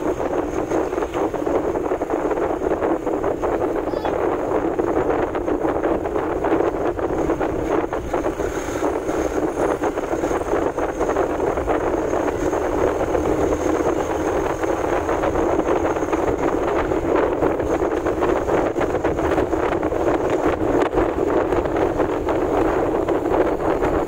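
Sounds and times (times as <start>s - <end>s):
vehicle road and engine noise: 0.0s - 24.0s
wind rushing over microphone: 0.0s - 24.0s.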